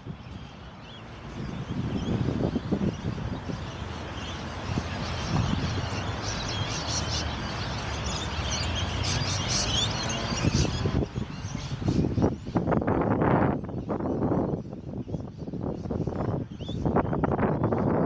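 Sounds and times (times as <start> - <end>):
low rumble of wind or traffic: 0.0 - 18.0
small birds chirping: 0.0 - 18.0.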